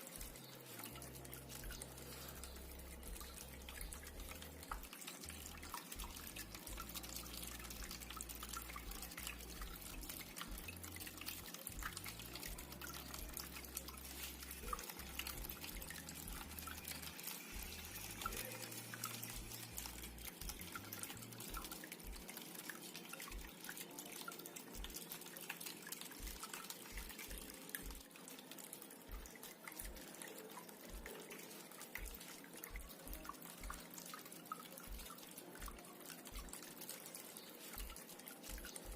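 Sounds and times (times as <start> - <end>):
water trickling in fountain: 0.0 - 38.9.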